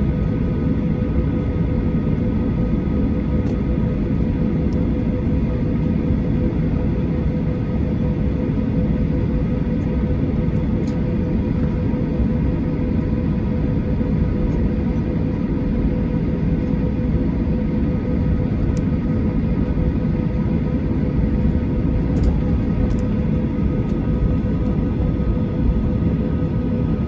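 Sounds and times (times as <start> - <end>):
airplane cabin rumble: 0.0 - 27.0
constant hum: 0.0 - 27.0.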